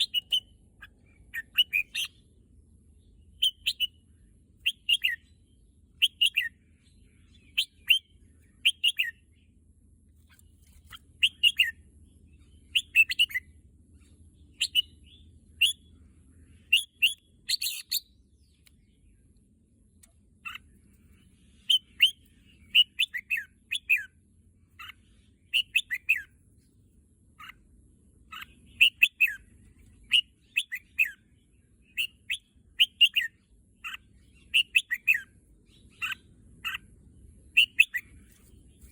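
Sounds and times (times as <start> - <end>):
bulbul singing: 0.0 - 2.3, 3.0 - 4.0, 4.6 - 9.5, 10.2 - 11.8, 12.4 - 19.2, 20.4 - 24.2, 24.8 - 26.3, 27.4 - 38.9.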